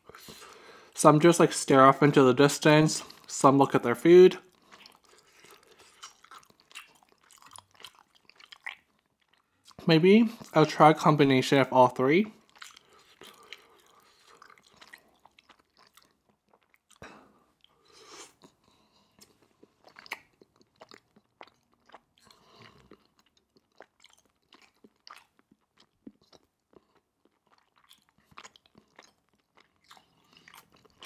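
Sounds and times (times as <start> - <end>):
person chewing food: 0.0 - 1.0, 3.0 - 3.4, 4.3 - 10.6, 12.3 - 31.0.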